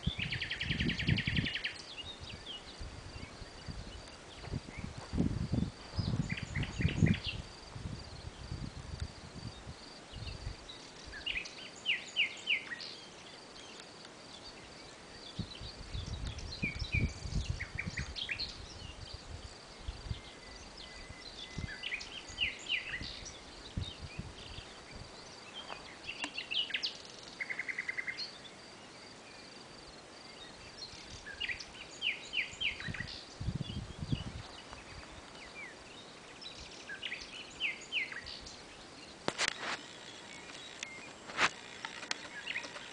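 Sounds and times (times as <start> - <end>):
wind rumbling on microphone: 0.0 - 11.6, 14.4 - 26.8, 30.4 - 42.9
insect chirring: 0.0 - 42.9
songbirds singing: 0.0 - 42.9.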